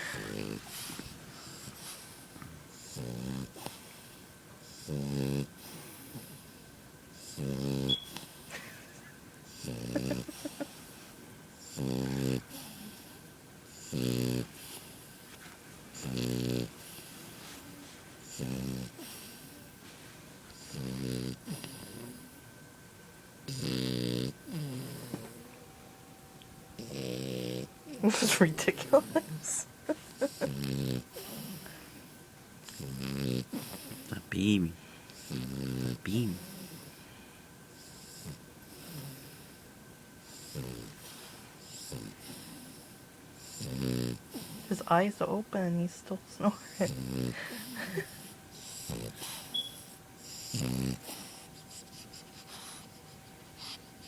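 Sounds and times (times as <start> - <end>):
puppy snoring: 0.0 - 8.7, 9.5 - 11.0, 11.6 - 19.8, 20.5 - 22.5, 23.4 - 25.6, 26.8 - 45.2, 46.3 - 54.0
puppy soft breathing: 0.0 - 8.8, 9.5 - 22.4, 26.8 - 45.1, 46.5 - 54.0.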